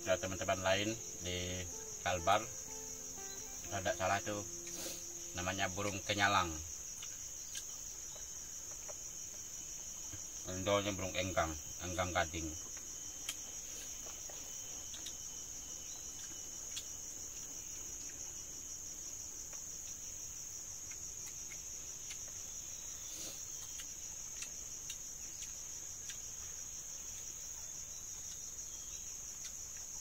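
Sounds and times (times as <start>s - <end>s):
insects chirring: 0.0s - 30.0s
faint ticks: 0.9s - 10.3s, 12.4s - 18.3s, 19.4s - 27.4s, 28.0s - 30.0s.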